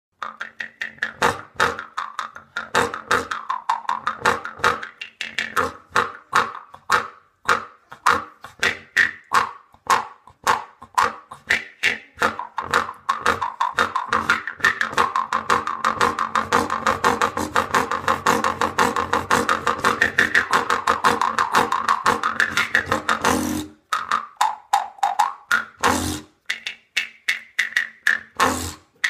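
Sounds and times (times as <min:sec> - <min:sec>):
jaw harp twanging melody: 0:00.2 - 0:29.0.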